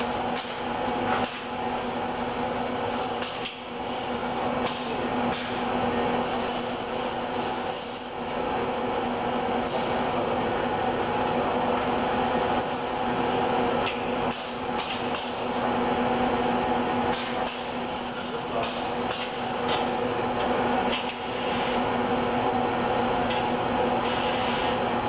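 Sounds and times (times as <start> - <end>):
robot machine hum with tones: 0.0 - 25.0.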